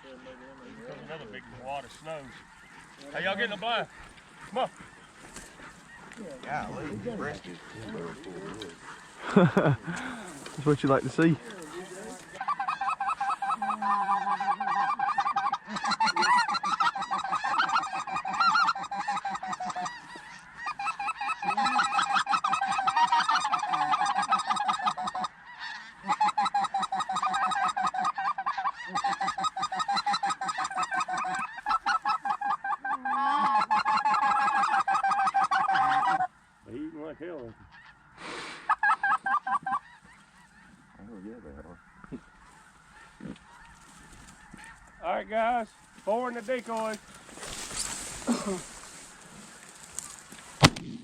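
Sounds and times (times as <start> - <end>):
geese honking: 0.0 - 51.0.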